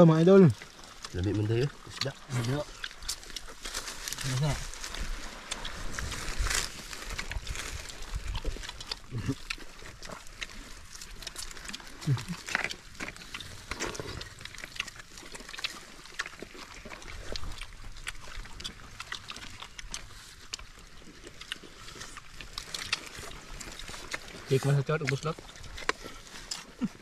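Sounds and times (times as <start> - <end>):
wet chewing and lip-smacking: 0.1 - 27.0.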